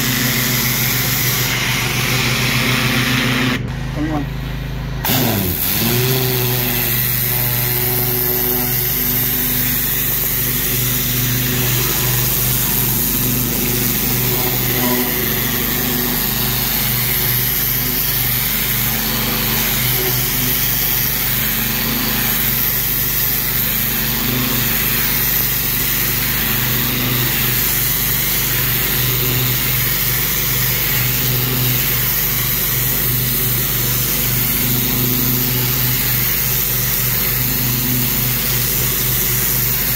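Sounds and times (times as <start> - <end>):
high-pressure spray hissing on brick: 0.0 - 3.4, 5.0 - 39.9
small engine running: 0.0 - 39.9.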